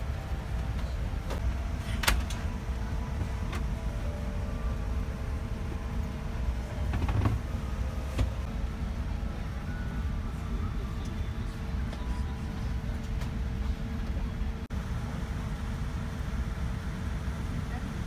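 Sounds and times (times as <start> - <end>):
cabin air system rumble: 0.0 - 18.0
constant hum: 0.0 - 18.0.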